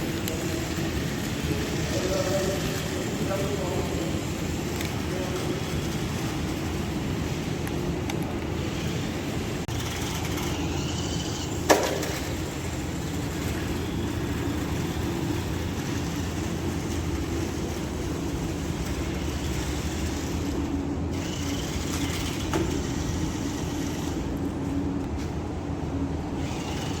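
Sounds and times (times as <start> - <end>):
toy car motor whirring: 0.0 - 24.4, 26.4 - 27.0.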